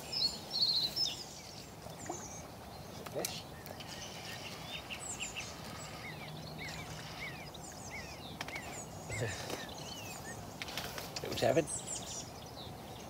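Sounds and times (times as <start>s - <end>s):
riverside ambience: 0.0s - 13.0s
songbird chirping: 0.0s - 13.0s.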